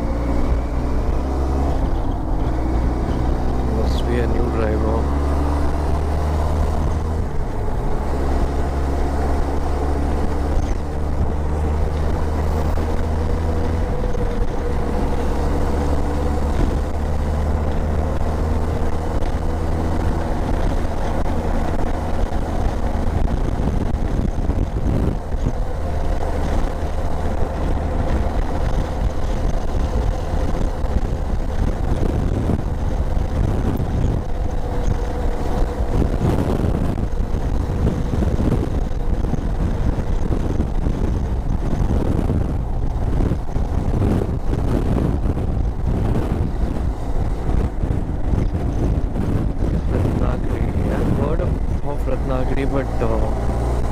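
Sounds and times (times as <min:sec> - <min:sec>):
motorcycle engine cruising: 0:00.0 - 0:53.9
wind and road noise: 0:00.0 - 0:53.9.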